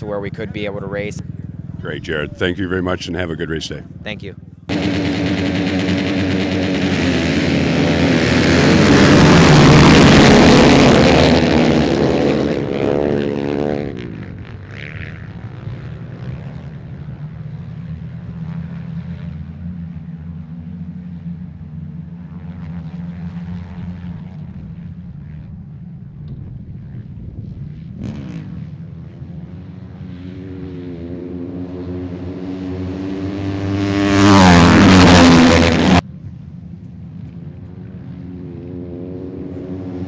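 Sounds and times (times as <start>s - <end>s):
motorcycles revving and racing: 0.0s - 25.7s, 26.3s - 36.1s, 37.5s - 40.0s.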